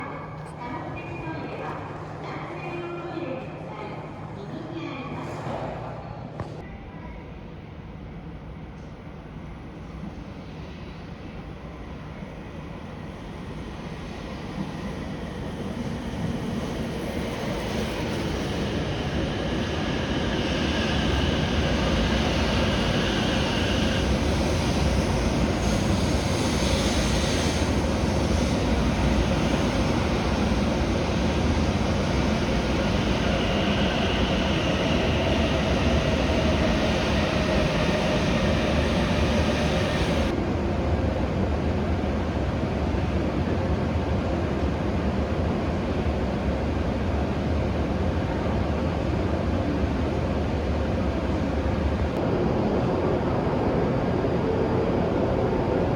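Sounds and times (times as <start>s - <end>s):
high whine of train: 0.0s - 55.9s
train running in: 7.2s - 55.9s.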